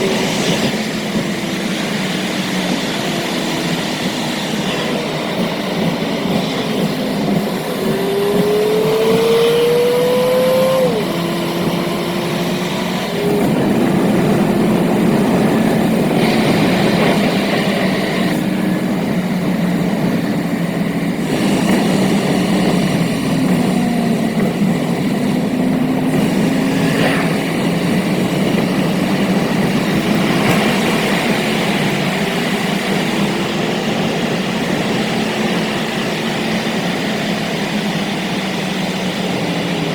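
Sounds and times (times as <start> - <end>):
car engine and road roar: 0.0 - 39.9.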